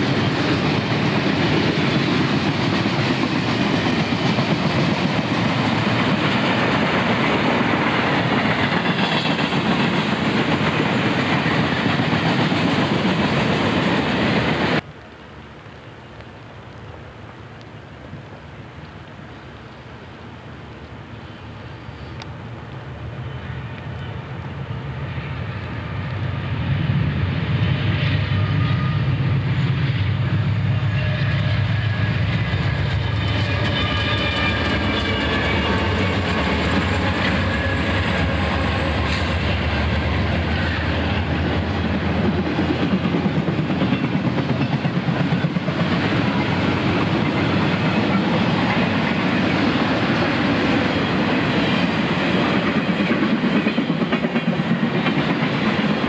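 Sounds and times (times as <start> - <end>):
clickety-clack of train wheels: 0.0 - 14.8, 25.0 - 56.0
diesel locomotives passing: 0.0 - 14.9, 15.8 - 56.0.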